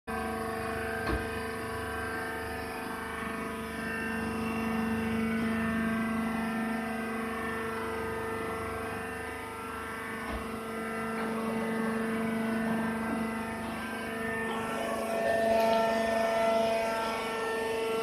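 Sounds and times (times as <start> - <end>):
baler machine humming: 0.1 - 18.0.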